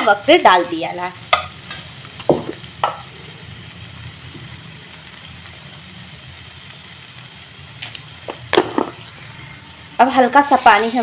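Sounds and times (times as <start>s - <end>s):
gas flame hum: 0.0s - 11.0s
spices sizzling in a pan: 0.0s - 11.0s.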